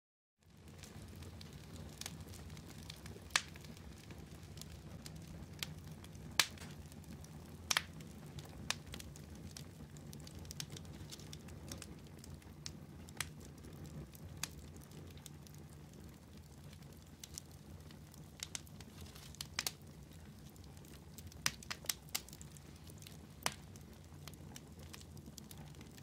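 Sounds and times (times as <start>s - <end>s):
low fire rumble: 0.4s - 26.0s
wood fire crackling and popping: 0.4s - 26.0s.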